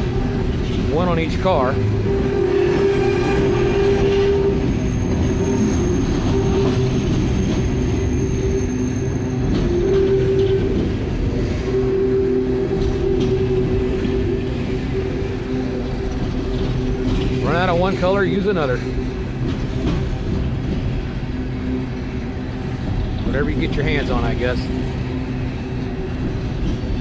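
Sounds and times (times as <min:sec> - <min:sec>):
train wheels clattering on rails: 0:00.0 - 0:27.0
wheel squeal whining tone: 0:00.0 - 0:27.0.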